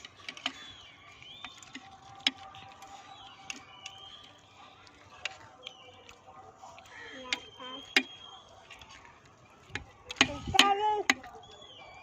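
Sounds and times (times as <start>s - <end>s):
faint high chirps: 0.4s - 9.7s, 11.2s - 12.0s.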